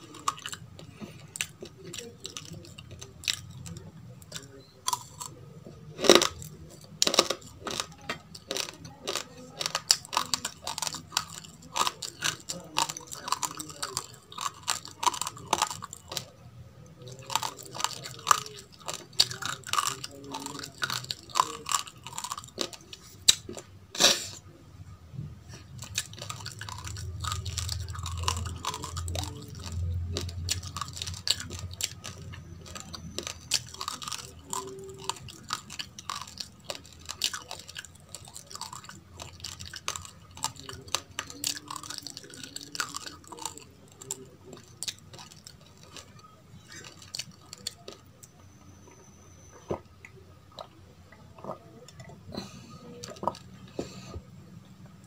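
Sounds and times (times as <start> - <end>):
chewing crunchy rice grains: 0.0 - 24.4, 25.5 - 54.3.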